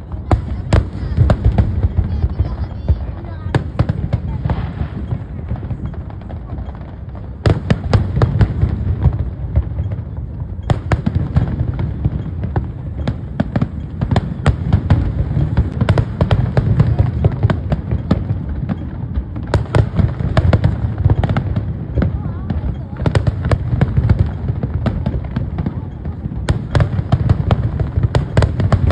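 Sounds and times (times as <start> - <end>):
fireworks bangs and crackles: 0.0 - 28.9
low rumble of booms: 0.0 - 28.9.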